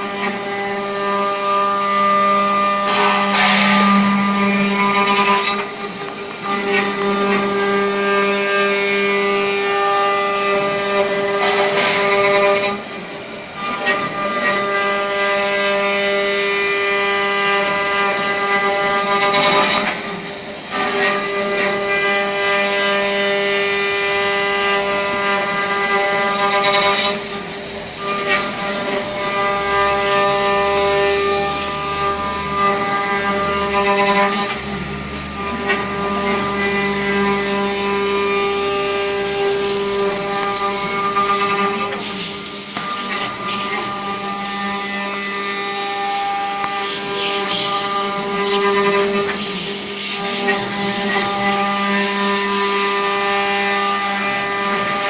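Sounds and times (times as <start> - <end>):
cutters carving wood hiss: 0.0 - 55.0
router spindles whining: 0.0 - 55.0.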